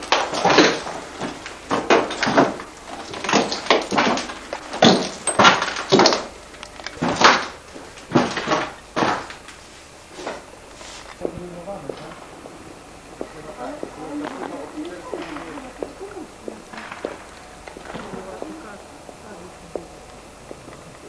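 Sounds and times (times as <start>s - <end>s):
scuffing footsteps indoors: 0.0s - 21.0s.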